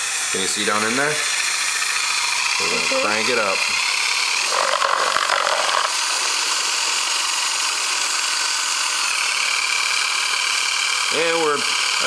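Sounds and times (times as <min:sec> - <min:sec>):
cordless drill whine: 0:00.0 - 0:12.0.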